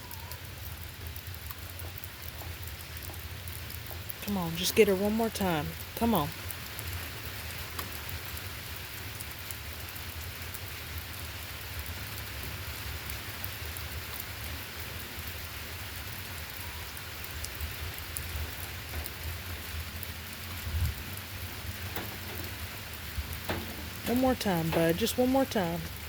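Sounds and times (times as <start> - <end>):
rain on a shelter roof: 0.0 - 26.0.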